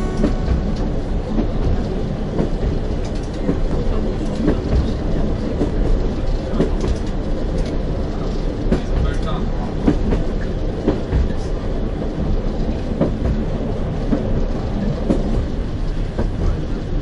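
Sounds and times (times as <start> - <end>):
rail joint clicks: 0.0 - 17.0
train wheels rumbling on rails: 0.0 - 17.0.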